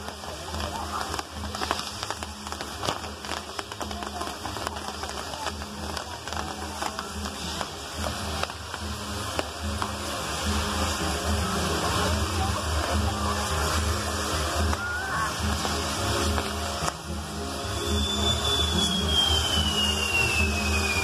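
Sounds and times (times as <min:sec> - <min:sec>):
fireworks crackling: 0:00.0 - 0:21.0
rushing hiss of sparks: 0:00.0 - 0:21.0.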